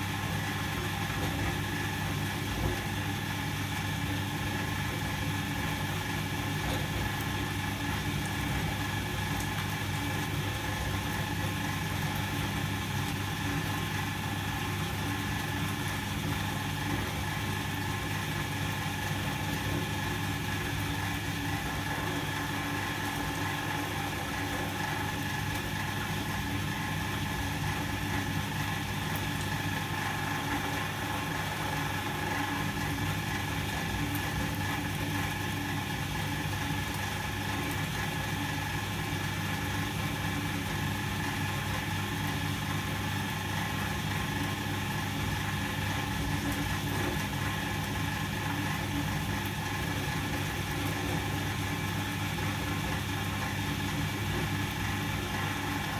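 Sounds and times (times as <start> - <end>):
washing machine motor humming: 0.0 - 55.9.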